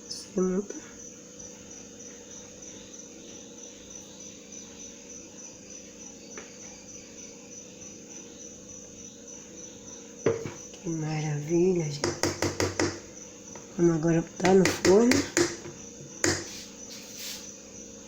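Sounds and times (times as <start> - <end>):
crickets chirping: 0.0 - 18.0
faint steady hum: 0.0 - 18.0.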